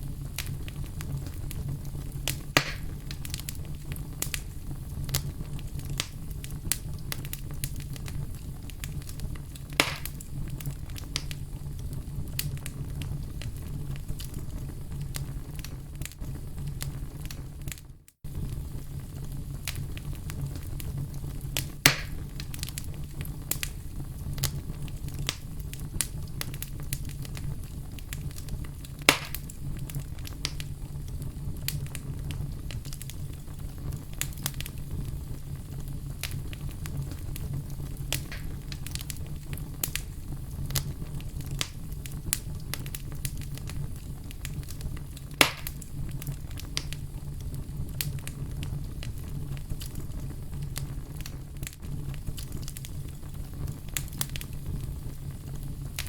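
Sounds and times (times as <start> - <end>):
loud pops from fire: 0.0 - 56.0
wood fire crackling: 0.0 - 56.0.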